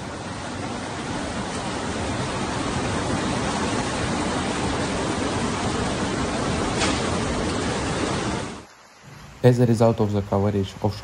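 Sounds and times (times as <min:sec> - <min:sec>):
floodwater rushing down street: 0:00.0 - 0:11.0.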